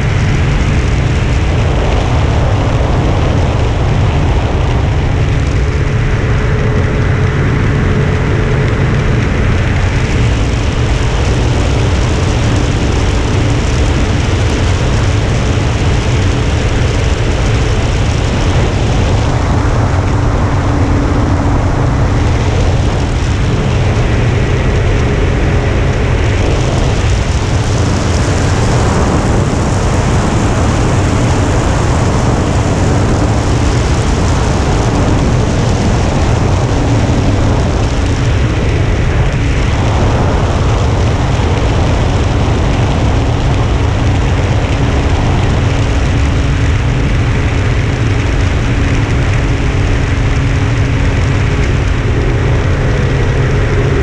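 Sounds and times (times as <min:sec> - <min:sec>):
electric motor and propeller humming: 0:00.0 - 0:54.0
wind rushing over camera: 0:00.0 - 0:54.0.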